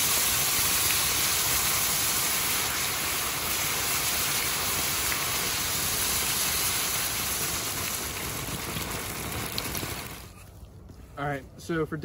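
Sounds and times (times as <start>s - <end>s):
water hissing into steam: 0.0s - 10.3s.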